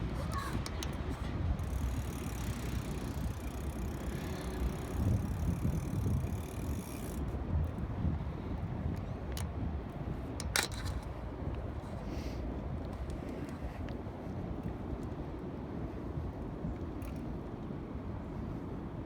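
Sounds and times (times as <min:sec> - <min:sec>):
bike tyres rolling on pavement: 0:00.0 - 0:12.0, 0:12.7 - 0:17.4
wind on microphone: 0:00.0 - 0:17.4.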